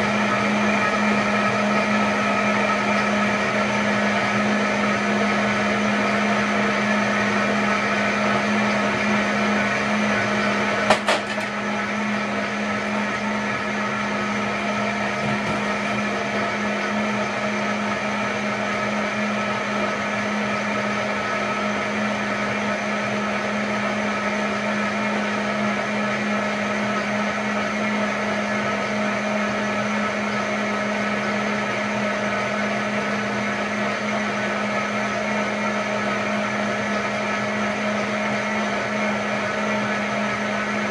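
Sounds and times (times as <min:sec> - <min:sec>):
blender running: 0:00.0 - 0:40.9.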